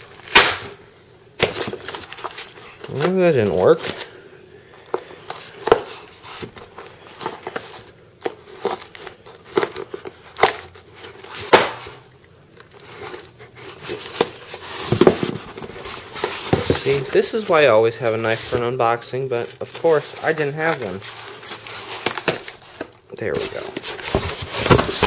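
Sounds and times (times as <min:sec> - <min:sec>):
packaging crinkling and tearing: 0:01.4 - 0:25.0.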